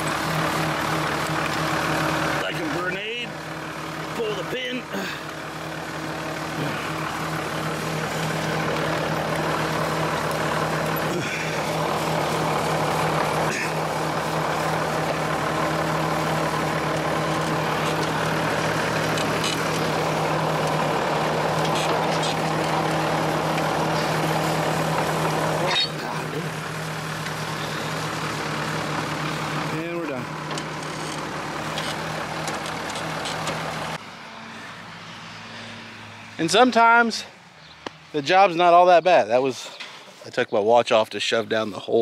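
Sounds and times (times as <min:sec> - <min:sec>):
tractor engine idling: 0:00.0 - 0:42.0.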